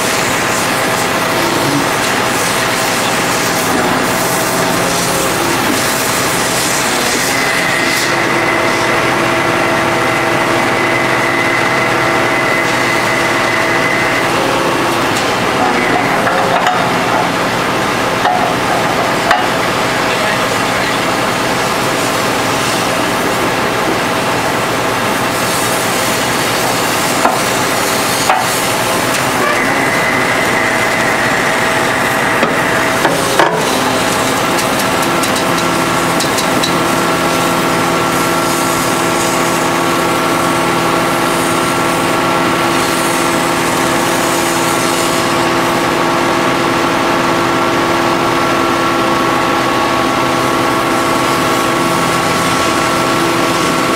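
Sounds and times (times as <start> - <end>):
hydraulic machine humming: 0.0 - 53.9.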